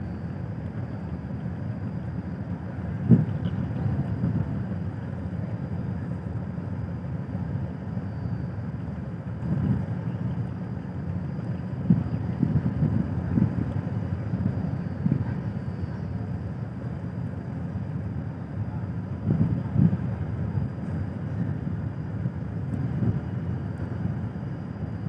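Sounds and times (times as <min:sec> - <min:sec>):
ship engines rumbling: 0:00.3 - 0:25.0.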